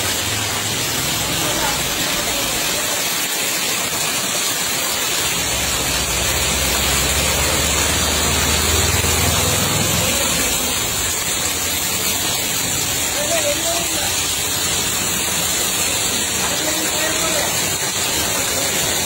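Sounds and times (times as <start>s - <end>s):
floodwater rushing and churning: 0.0s - 19.0s.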